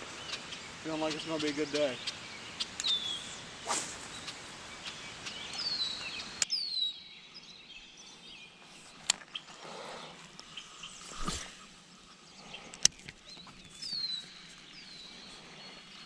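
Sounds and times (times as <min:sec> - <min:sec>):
birds whistling calls: 0:00.0 - 0:16.0
steady outdoor hiss: 0:00.0 - 0:16.0.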